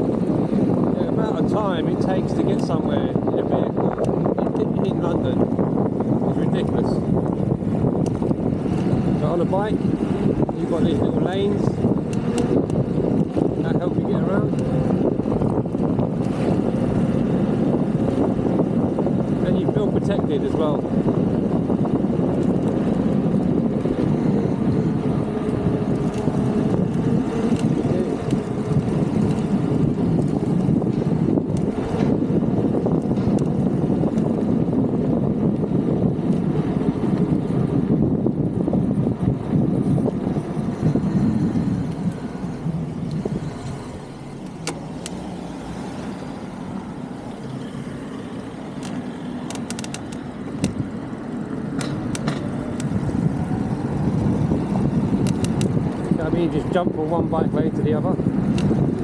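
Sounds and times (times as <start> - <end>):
urban traffic rumble: 0.0 - 59.0
vehicles passing: 0.0 - 59.0.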